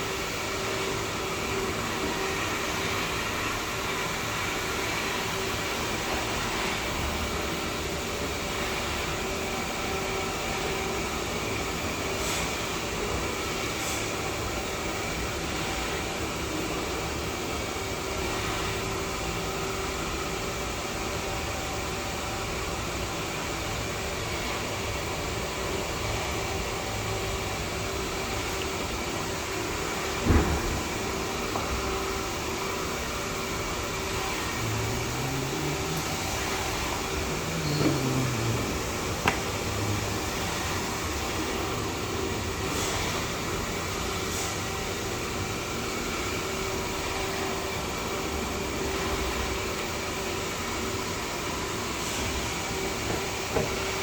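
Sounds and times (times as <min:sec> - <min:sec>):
mechanical running hum: 0:00.0 - 0:54.0.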